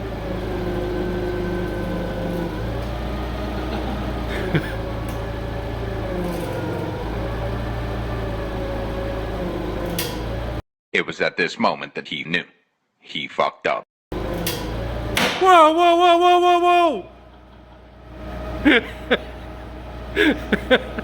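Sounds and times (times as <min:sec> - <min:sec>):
forklift engine whining: 0:00.0 - 0:10.6, 0:14.1 - 0:21.0.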